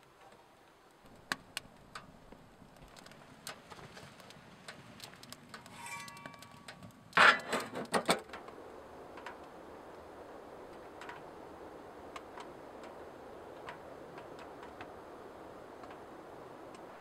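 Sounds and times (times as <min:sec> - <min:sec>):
dry twigs crackling in fire: 0:00.0 - 0:17.0.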